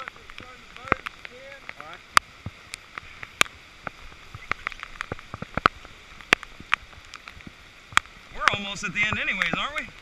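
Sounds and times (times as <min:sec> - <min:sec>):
raindrops tapping close by: 0:00.0 - 0:10.0
steady hiss of falling rain: 0:00.0 - 0:10.0.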